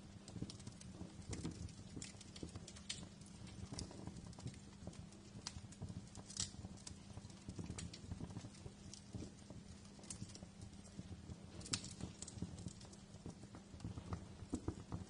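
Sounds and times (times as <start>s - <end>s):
fire popping and snapping: 0.0s - 15.0s
low steady rumble: 0.0s - 15.0s
wood fire crackling: 0.0s - 15.0s.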